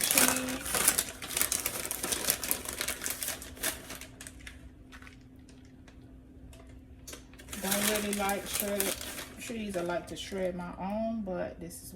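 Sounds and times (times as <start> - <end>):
plastic bag crinkling: 0.0 - 6.0, 6.6 - 10.6
faint steady hum: 0.0 - 11.9.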